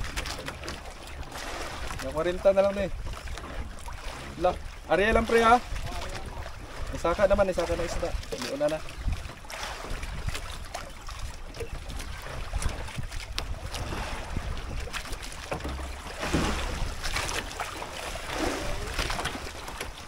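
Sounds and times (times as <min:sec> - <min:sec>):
water sloshing against boat: 0:00.0 - 0:20.0
wind buffeting microphone: 0:01.4 - 0:19.7.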